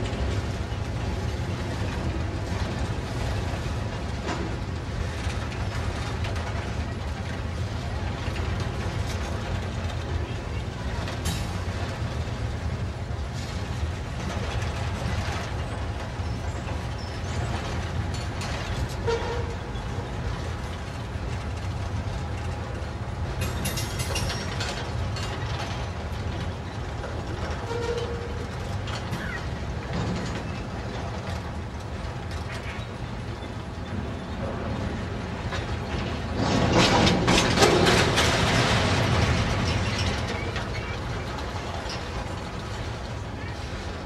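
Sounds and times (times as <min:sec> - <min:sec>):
train wheels rumbling over rail joints: 0:00.0 - 0:44.0.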